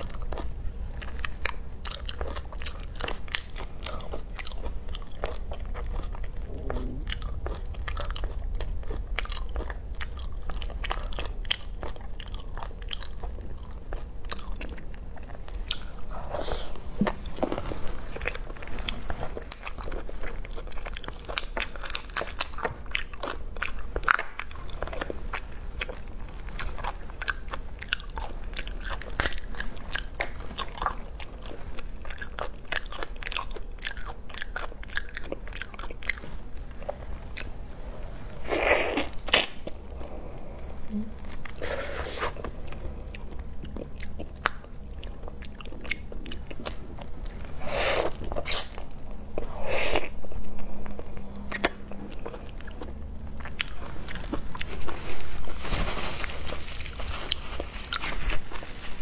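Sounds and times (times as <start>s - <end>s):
person chewing prawns: 0.0s - 55.1s.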